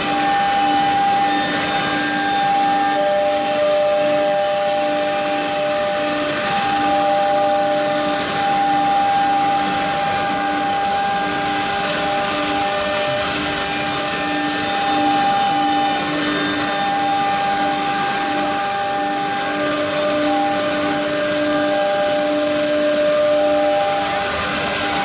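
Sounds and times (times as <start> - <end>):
router spindles whining: 0.0 - 25.0.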